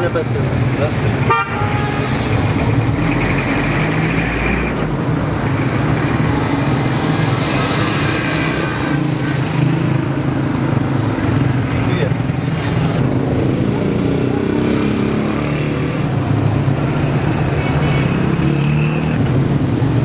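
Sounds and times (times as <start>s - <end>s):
car engines running: 0.0s - 20.0s
motorcycle engines running: 0.0s - 20.0s.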